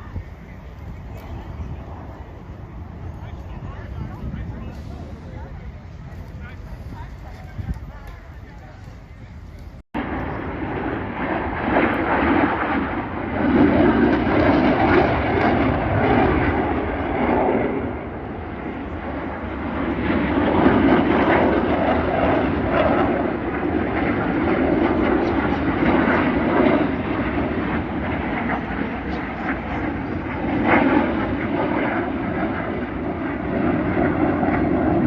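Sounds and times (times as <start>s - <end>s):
fighter jets roaring past: 0.0s - 35.0s.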